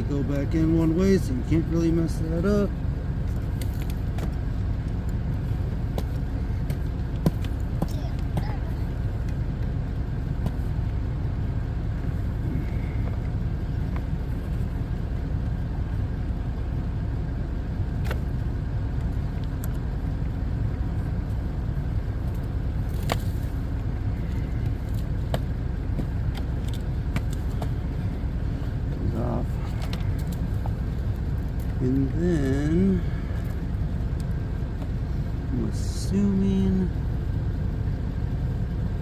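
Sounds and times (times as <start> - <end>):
low rumble: 0.0 - 39.0.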